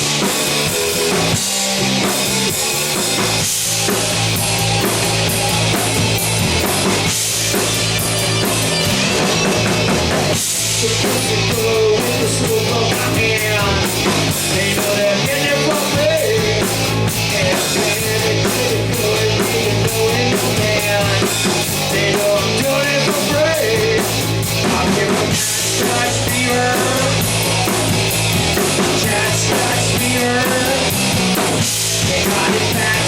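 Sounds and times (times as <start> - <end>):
bending lead guitar line: 0.0 - 33.0
hard rock instrumental: 0.0 - 33.0.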